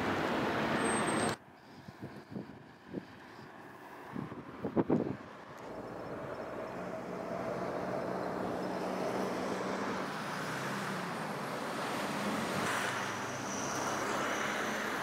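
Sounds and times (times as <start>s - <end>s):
traffic noise: 0.0s - 15.0s
vehicle engine humming: 2.4s - 15.0s.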